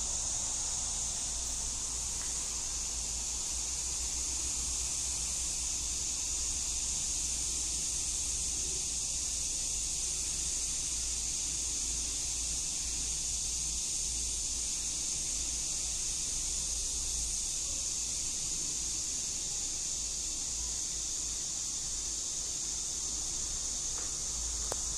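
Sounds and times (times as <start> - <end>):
high-pitched hiss: 0.0 - 24.9.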